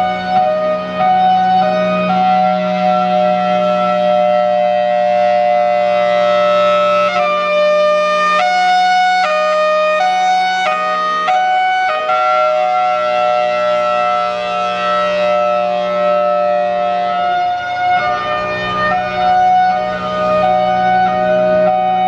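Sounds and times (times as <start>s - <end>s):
two-tone warning siren: 0.0s - 22.0s.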